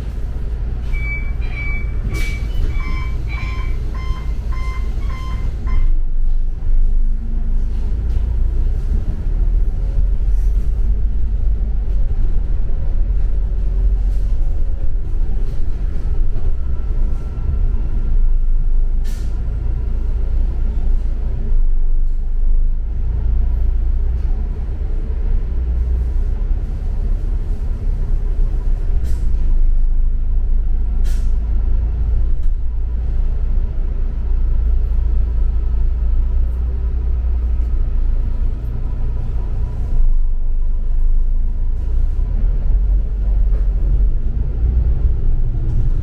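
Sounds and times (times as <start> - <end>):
bus engine and road rumble: 0.0 - 46.0.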